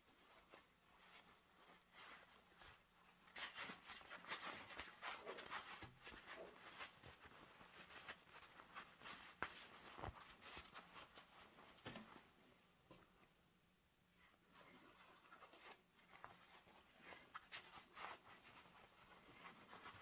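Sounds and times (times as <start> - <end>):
rustling and scraping of materials: 0.0 - 13.3, 14.1 - 20.0.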